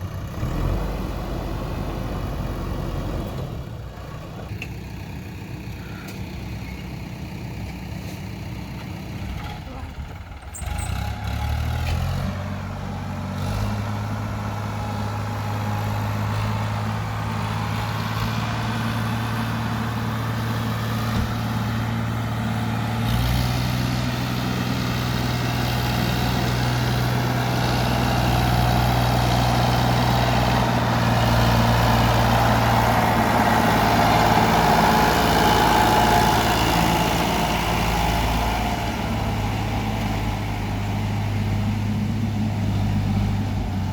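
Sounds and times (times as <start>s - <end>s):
diesel engine working: 0.0s - 43.9s.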